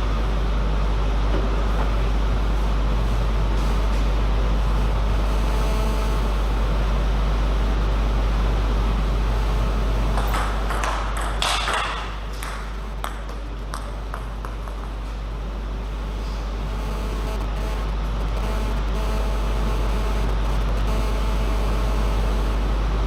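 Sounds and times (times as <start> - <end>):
low hum of hall: 0.0 - 23.0.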